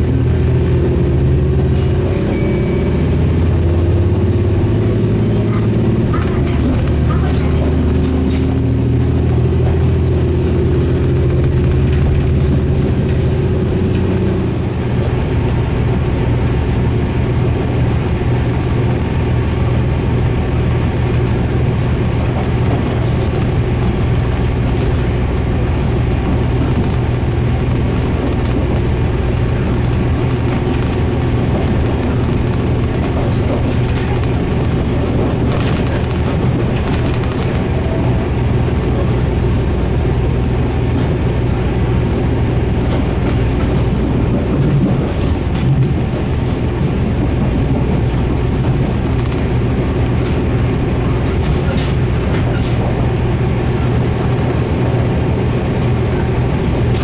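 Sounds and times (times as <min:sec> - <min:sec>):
diesel railcar engine: 0:00.0 - 0:57.0
train running noise: 0:00.0 - 0:57.0.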